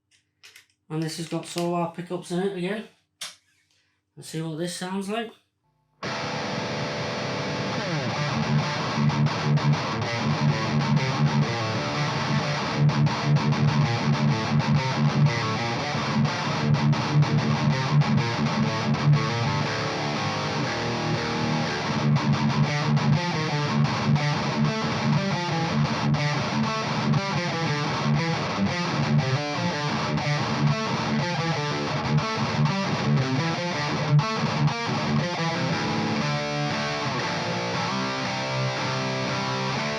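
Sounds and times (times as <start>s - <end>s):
distorted electric guitar riffs: 6.0s - 39.9s.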